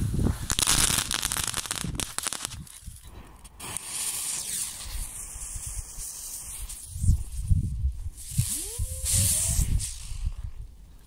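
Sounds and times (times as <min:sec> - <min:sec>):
firework crackling: 0:00.0 - 0:10.4
fuse hissing and spitting sparks: 0:00.0 - 0:10.4.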